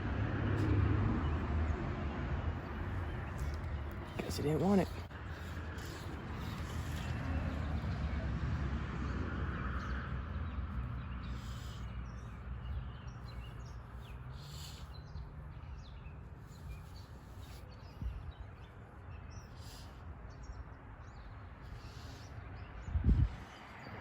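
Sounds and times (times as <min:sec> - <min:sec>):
birds chirping: 0:00.5 - 0:24.0.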